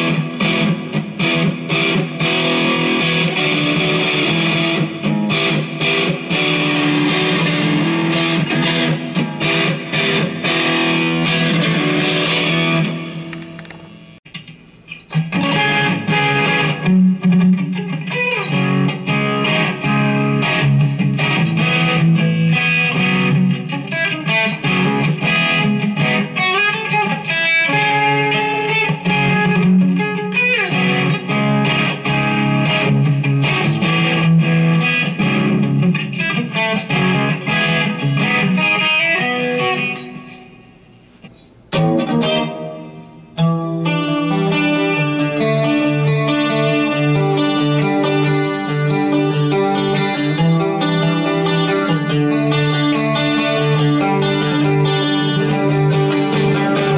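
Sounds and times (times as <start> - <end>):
electric guitar strumming chords: 0.0 - 56.9.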